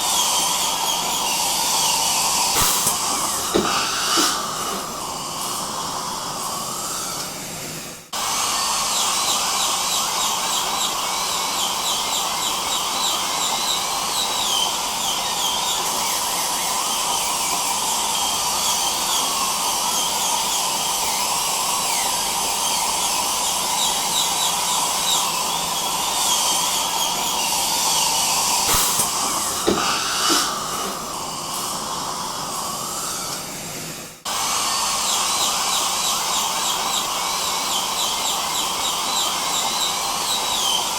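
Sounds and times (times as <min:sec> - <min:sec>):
dental drill whine: 0:00.0 - 0:40.9
suction hiss: 0:00.0 - 0:40.9.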